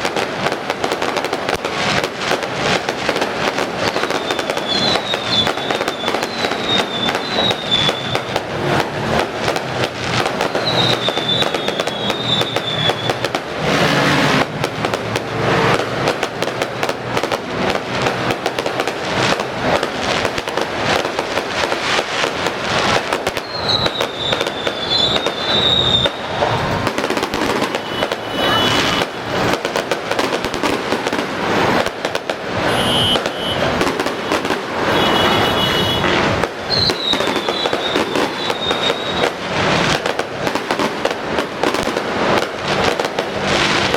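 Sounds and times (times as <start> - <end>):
fireworks bursting and crackling: 0.0 - 43.9
fireworks whistles: 0.0 - 43.9.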